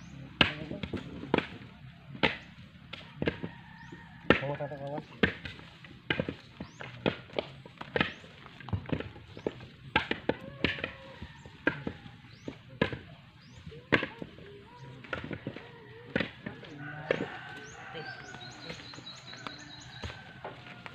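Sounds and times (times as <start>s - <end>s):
blade chopping coconuts: 0.0s - 20.9s.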